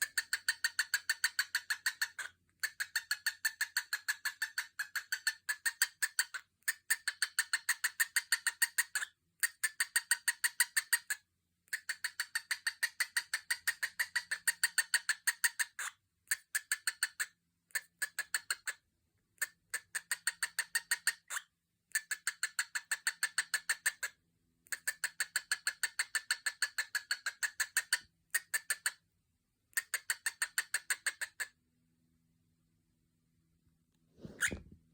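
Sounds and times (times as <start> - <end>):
cockatiel clicking chirps: 0.0 - 18.8, 19.4 - 29.0, 29.7 - 31.5, 34.4 - 34.6.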